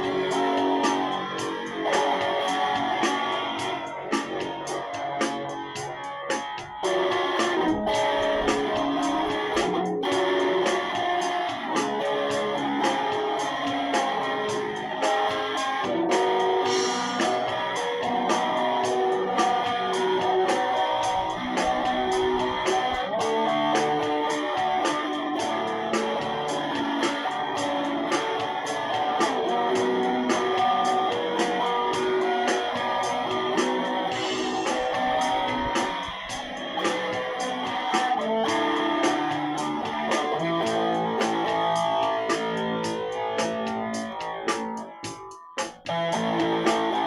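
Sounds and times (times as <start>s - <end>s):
guitar held notes: 0.0s - 47.0s
steady beat: 0.0s - 47.0s.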